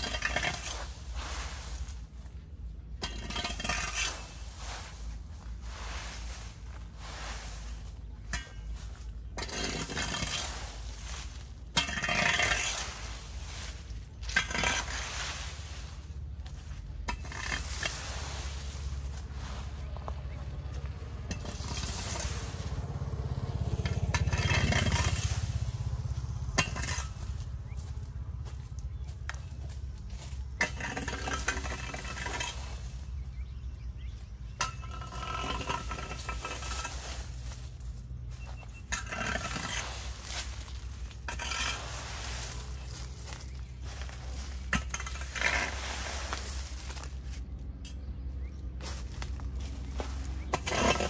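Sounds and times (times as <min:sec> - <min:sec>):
low rumble: 0:00.0 - 0:51.0
rake scraping leaves on concrete: 0:00.0 - 0:51.0.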